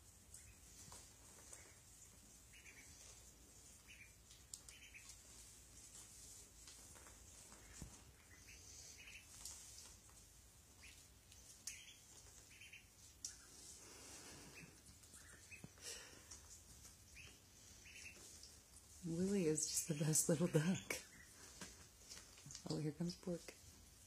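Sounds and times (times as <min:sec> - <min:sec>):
ducklings peeping: 0:00.1 - 0:05.9, 0:07.2 - 0:09.8, 0:10.7 - 0:22.0.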